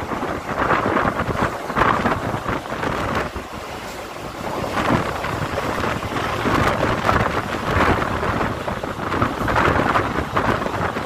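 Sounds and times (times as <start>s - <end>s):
train wheel and track noise: 0.0s - 11.0s
wind buffeting microphone: 0.0s - 11.0s.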